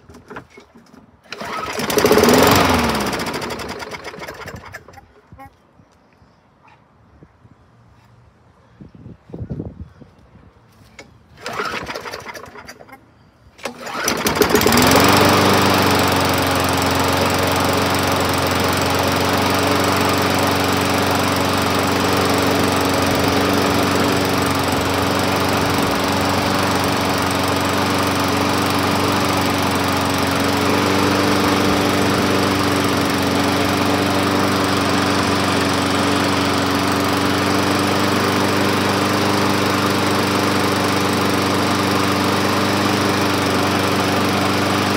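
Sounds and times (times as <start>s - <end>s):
lawn mower engine running: 0.0s - 5.2s, 11.0s - 13.0s, 13.6s - 44.9s.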